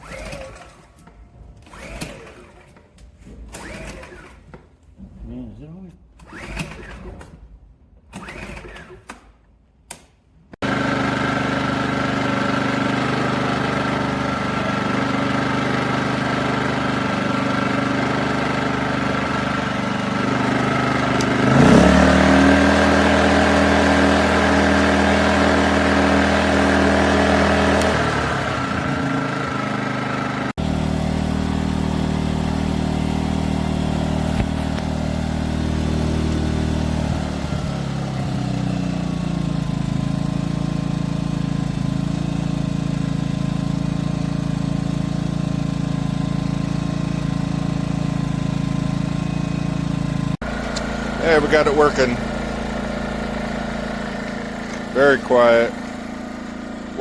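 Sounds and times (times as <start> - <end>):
generator engine running: 10.6 - 57.0.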